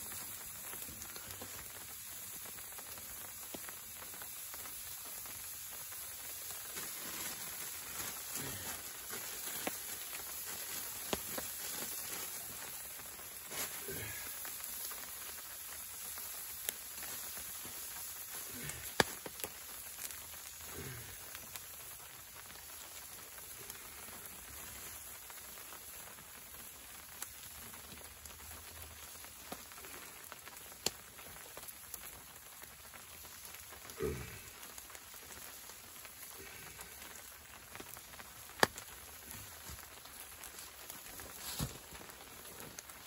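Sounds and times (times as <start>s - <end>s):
fire popping: 0.0s - 43.0s
hot dogs sizzling: 0.0s - 43.0s
wood fire crackling: 0.0s - 43.0s.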